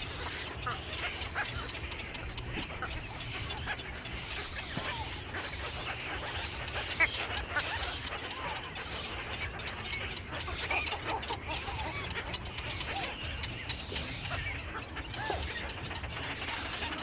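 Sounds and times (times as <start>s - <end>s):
many birds chirping: 0.0s - 17.0s.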